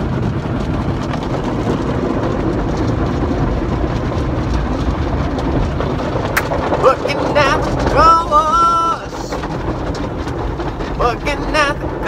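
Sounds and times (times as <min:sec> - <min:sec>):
heavy low rumble: 0:00.0 - 0:12.0.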